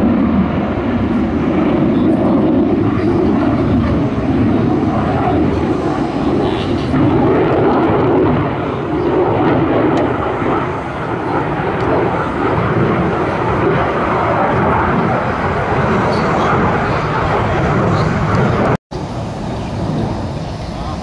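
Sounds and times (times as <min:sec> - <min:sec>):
aircraft engine flying: 0:00.0 - 0:21.0.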